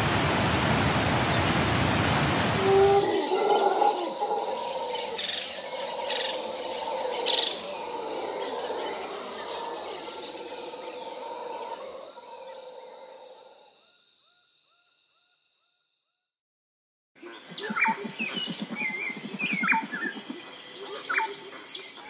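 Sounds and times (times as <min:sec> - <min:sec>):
rural ambience: 0:00.0 - 0:14.8, 0:17.2 - 0:22.0
crickets trilling: 0:02.3 - 0:16.0, 0:17.2 - 0:22.0.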